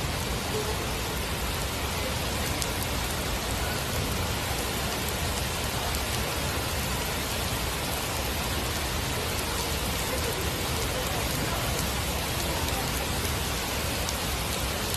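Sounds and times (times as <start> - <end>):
heavy rain on hard surfaces: 0.0 - 14.9.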